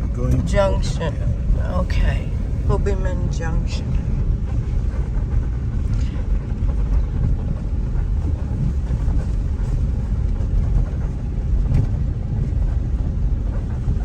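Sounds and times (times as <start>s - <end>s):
car road noise rumble: 0.0s - 14.0s.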